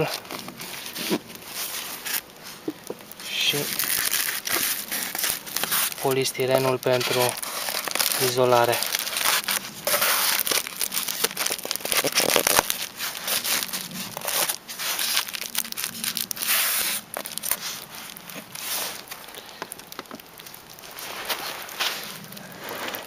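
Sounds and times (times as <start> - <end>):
plastic sheeting crinkling: 0.0 - 23.0
small scrapes and clicks: 0.0 - 23.0.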